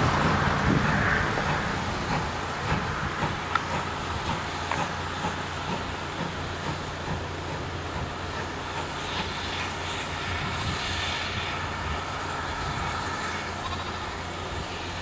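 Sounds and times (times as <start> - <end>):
steam locomotive hauling train: 0.0 - 15.0.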